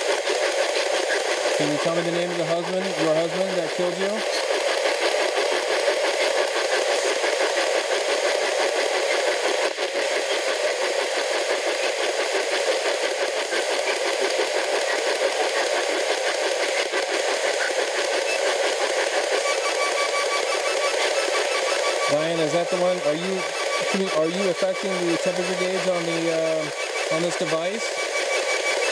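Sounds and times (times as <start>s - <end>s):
chopped radio static hiss: 0.0s - 28.9s.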